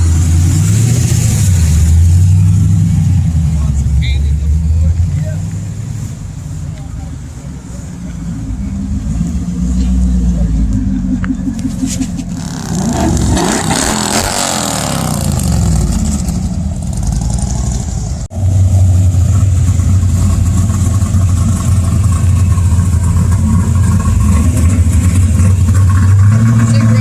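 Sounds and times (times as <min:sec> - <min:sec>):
car engines revving: 0:00.0 - 0:27.0
deep engine rumble: 0:00.0 - 0:27.0.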